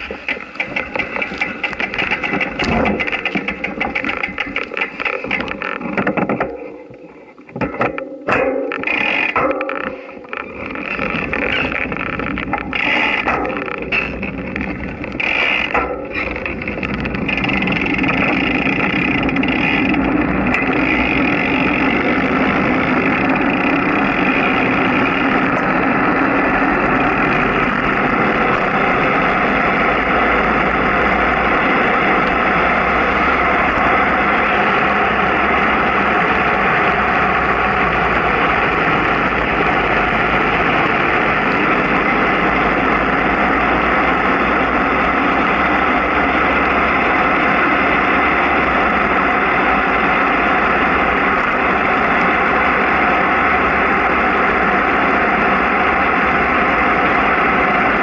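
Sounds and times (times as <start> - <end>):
vehicle gathering speed: 0.0 - 58.0.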